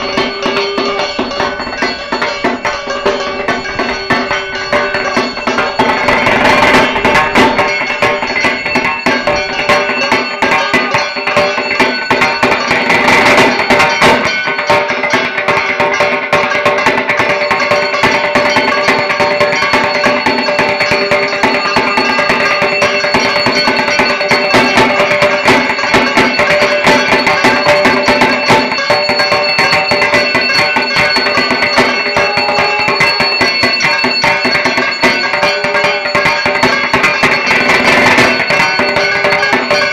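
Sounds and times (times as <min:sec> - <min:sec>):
barrel drum fast rhythm: 0:00.0 - 0:39.9.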